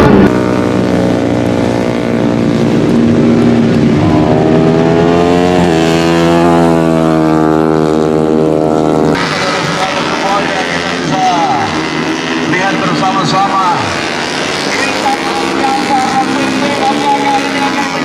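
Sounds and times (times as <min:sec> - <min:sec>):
motorcycles revving and shifting: 0:00.0 - 0:18.0.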